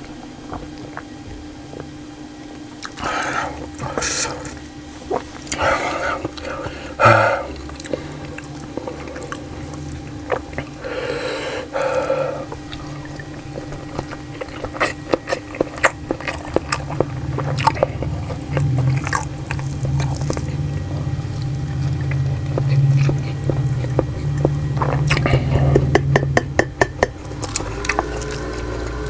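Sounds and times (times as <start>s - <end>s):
person chewing wetly: 0.0s - 29.0s.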